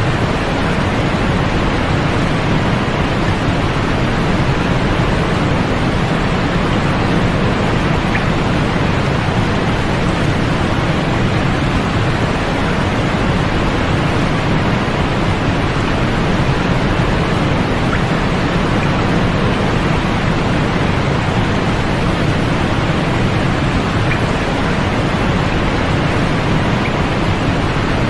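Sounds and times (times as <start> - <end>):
white noise hiss: 0.0 - 28.0.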